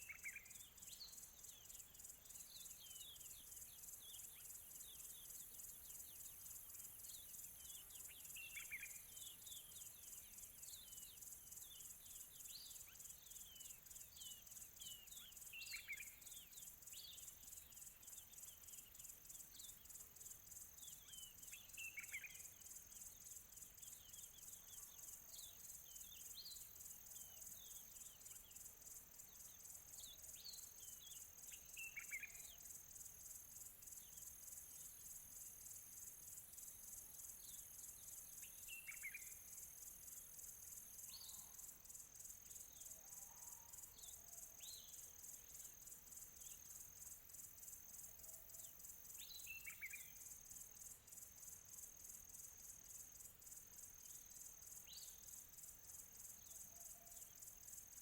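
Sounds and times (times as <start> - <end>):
faint birds chirping: 0.0 - 58.0
high pulsing insect trill: 0.0 - 58.0.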